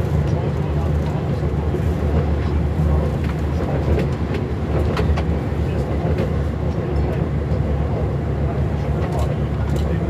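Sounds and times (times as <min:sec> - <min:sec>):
railbus diesel engine drone: 0:00.0 - 0:10.0.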